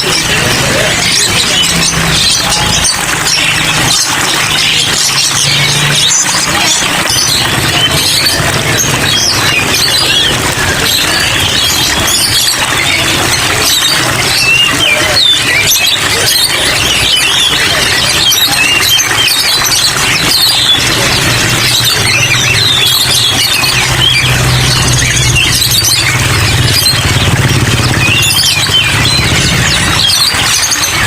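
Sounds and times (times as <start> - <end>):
songbirds chirping: 0.0 - 31.0.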